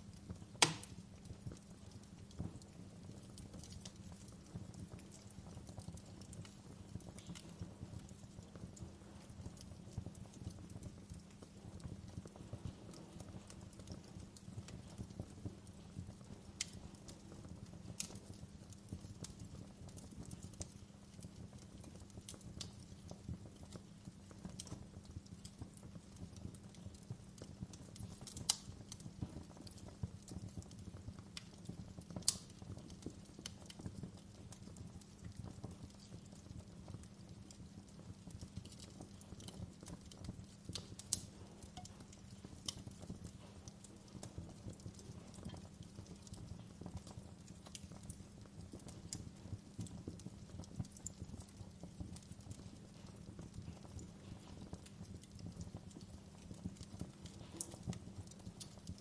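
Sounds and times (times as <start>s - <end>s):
fire crackling in a fireplace: 0.0s - 59.0s
sharp pops of fire: 0.2s - 35.0s, 37.0s - 50.3s.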